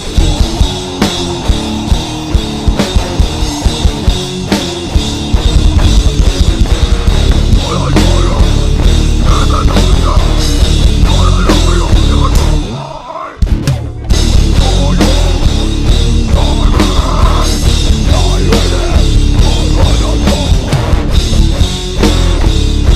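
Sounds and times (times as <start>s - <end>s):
punk band playing: 0.0s - 22.9s.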